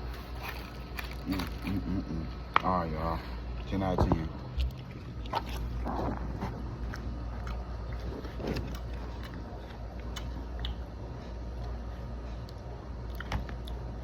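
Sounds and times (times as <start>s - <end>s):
person chewing sandwich: 0.0s - 2.5s, 4.5s - 14.0s
low steady hum: 0.0s - 14.0s.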